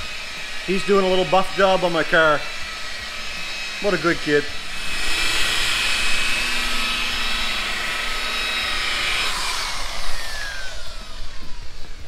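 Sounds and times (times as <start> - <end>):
rotary polisher motor whining: 0.0 - 12.0.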